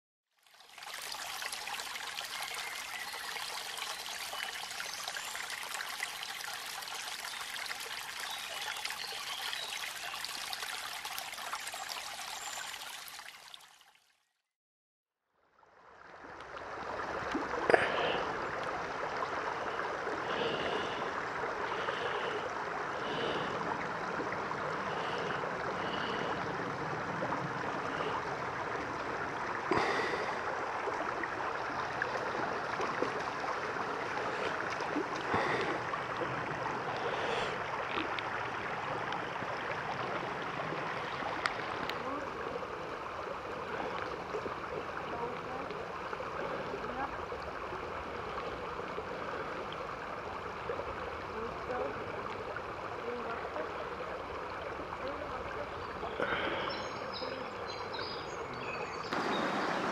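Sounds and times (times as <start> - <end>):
creek running over rocks: 0.3 - 14.3, 15.5 - 59.9.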